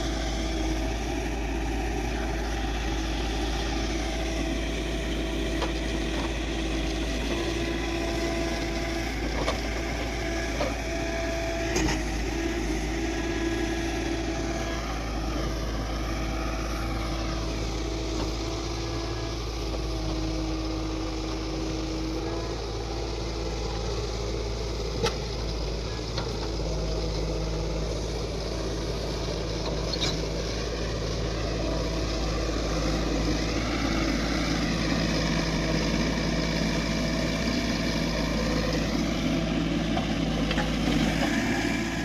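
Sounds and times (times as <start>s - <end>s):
diesel machinery running: 0.0s - 42.0s.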